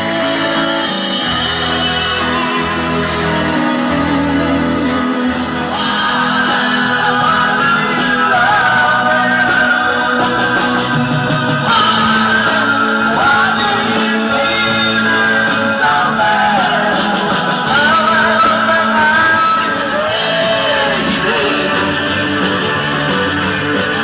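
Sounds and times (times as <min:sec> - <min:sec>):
live pop band with singing: 0:00.0 - 0:24.0.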